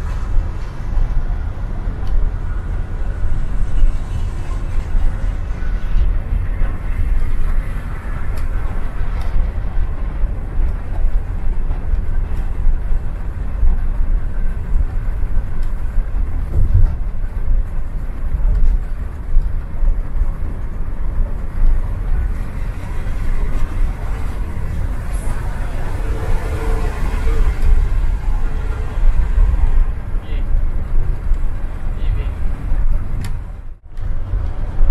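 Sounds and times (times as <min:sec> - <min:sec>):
bus engine and road rumble: 0:00.0 - 0:34.9
tyre and wind noise: 0:00.0 - 0:34.9.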